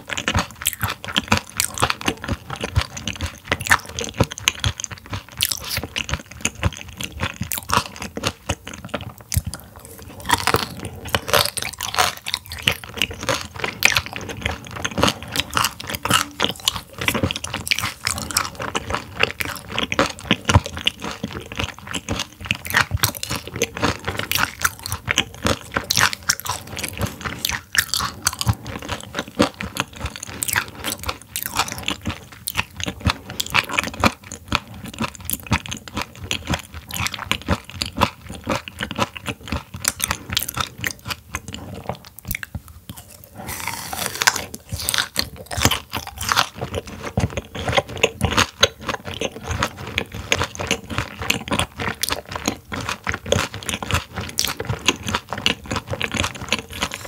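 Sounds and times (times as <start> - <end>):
chewing and crunching raw fish: 0.0 - 57.0.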